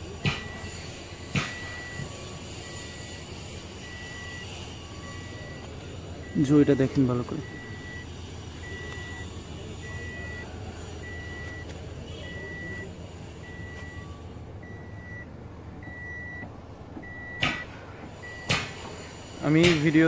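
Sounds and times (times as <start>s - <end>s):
reversing beeper: 0.4s - 18.6s.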